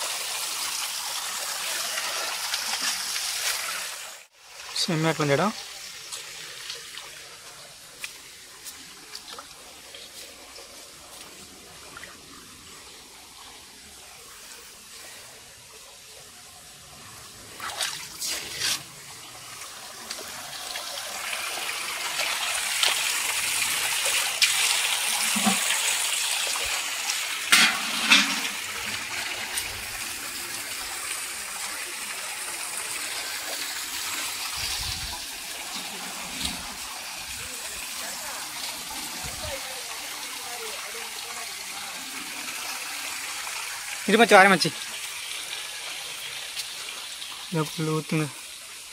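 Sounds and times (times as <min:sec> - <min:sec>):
water pouring into stone trough: 0:00.0 - 0:48.9.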